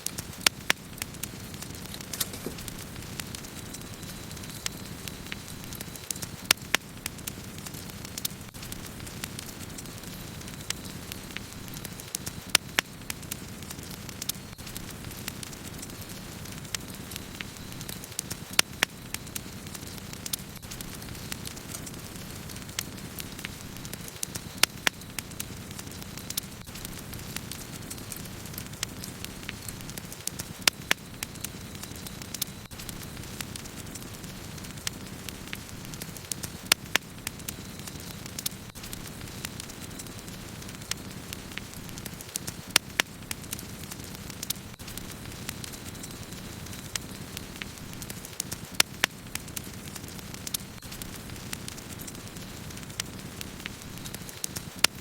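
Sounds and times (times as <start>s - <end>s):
campfire flames rushing: 0.0s - 55.0s
wood fire crackling: 0.0s - 55.0s.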